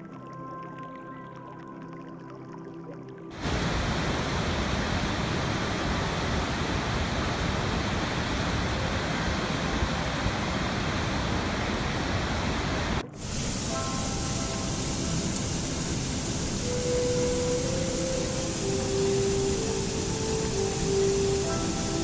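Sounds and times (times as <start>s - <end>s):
rushing water: 3.3s - 22.0s.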